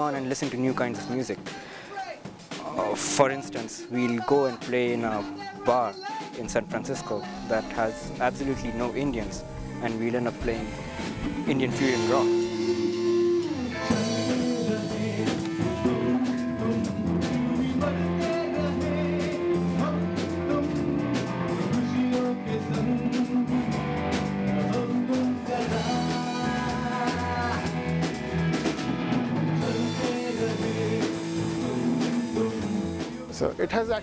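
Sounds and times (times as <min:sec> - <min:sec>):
drum kit: 0:00.0 - 0:34.0
person singing: 0:00.6 - 0:28.1, 0:29.6 - 0:33.5
electric guitar: 0:02.5 - 0:33.4
bass guitar: 0:02.5 - 0:34.0.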